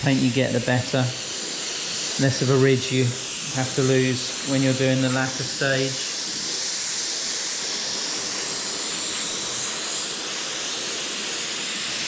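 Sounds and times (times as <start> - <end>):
airbrush hissing: 0.0 - 12.0.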